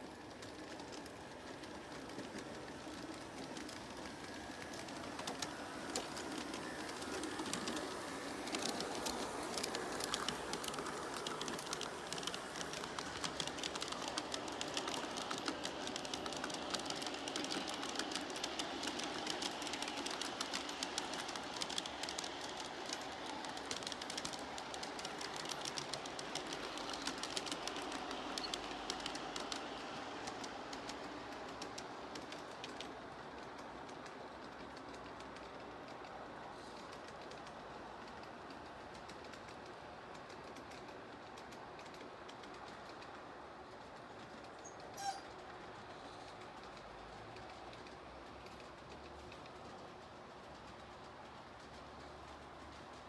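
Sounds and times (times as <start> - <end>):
model train wheels rumbling: 0.0 - 53.0
wheels clicking over rail joints: 0.0 - 53.0.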